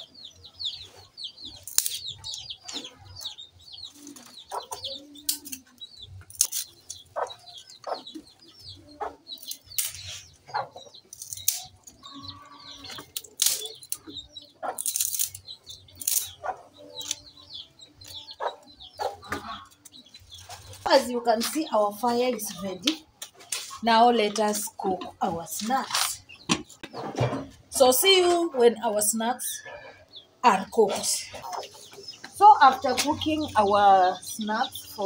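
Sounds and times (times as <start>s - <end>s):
chickens clucking: 0.0s - 35.0s
small birds chirping: 0.0s - 35.0s.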